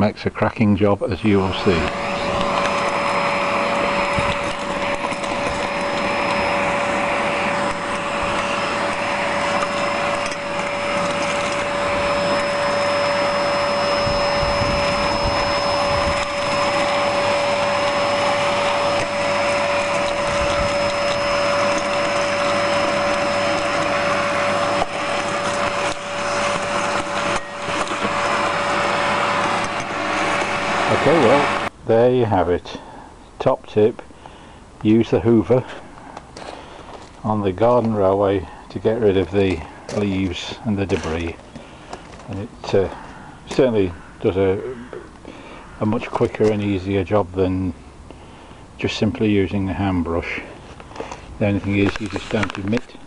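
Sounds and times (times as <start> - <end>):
vacuum cleaner whining: 1.1 - 31.8, 35.0 - 53.0.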